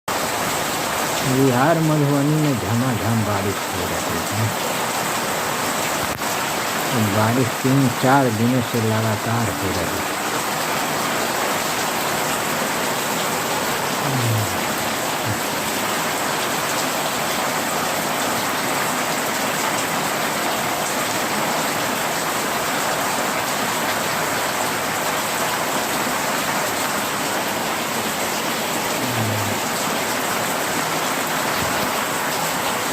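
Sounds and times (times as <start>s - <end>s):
heavy rain pouring: 0.1s - 32.9s.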